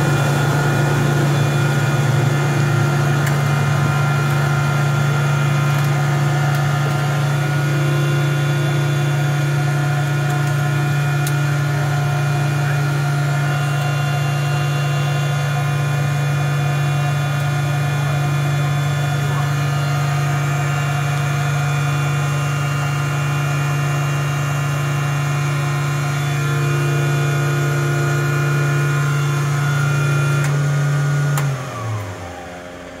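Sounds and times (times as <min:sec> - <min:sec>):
turboprop engine idling: 0:00.0 - 0:33.0.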